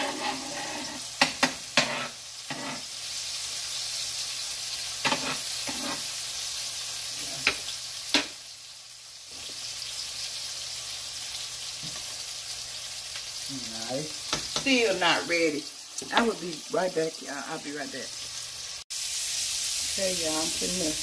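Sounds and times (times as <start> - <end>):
burger patties sizzling: 0.0 - 21.0.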